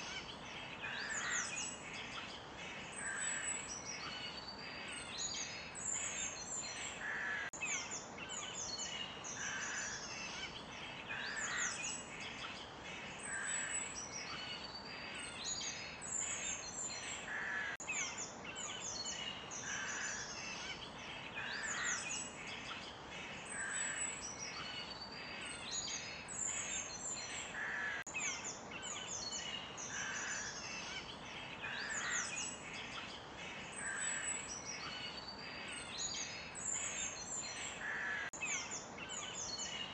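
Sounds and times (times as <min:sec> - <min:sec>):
forest birds chirping and singing: 0:00.0 - 0:39.9.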